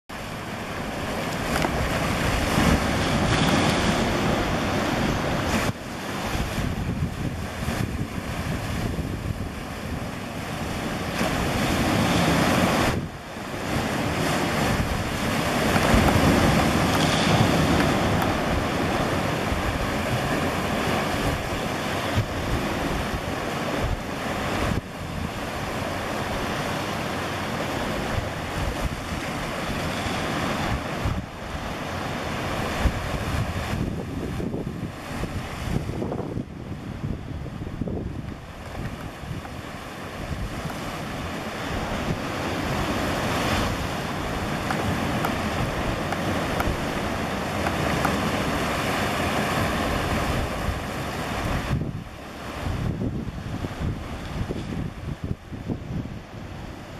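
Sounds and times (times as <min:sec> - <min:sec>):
sea surf washing: 0:00.1 - 0:56.9
wind buffeting microphone: 0:00.1 - 0:56.9.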